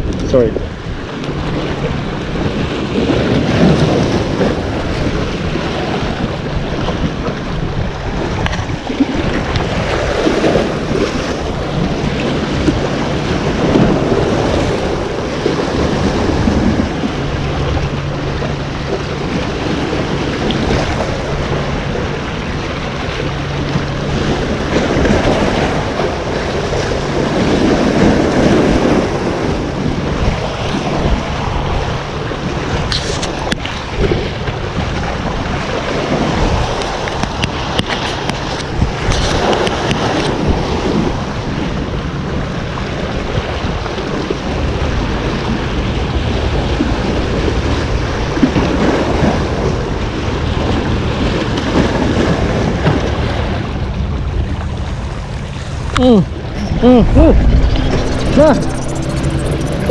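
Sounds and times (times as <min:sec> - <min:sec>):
waves breaking over rocks: 0:00.0 - 0:57.8
wind buffeting microphone: 0:00.0 - 0:59.2.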